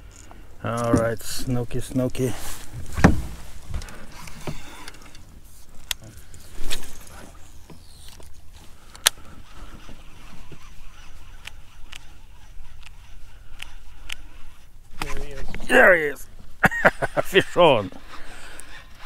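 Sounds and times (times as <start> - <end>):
fishing gear clicks and knocks: 0.0 - 15.7.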